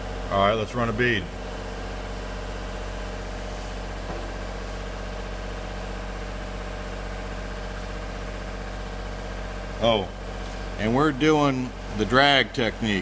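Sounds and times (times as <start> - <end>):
welder diesel engine running: 0.0 - 13.0.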